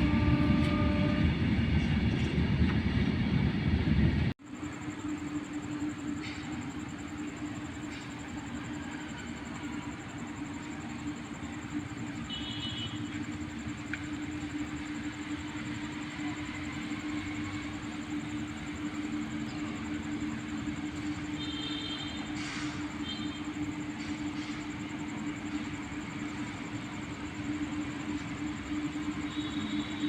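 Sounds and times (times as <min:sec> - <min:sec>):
train rumbling past: 0:00.0 - 0:30.0.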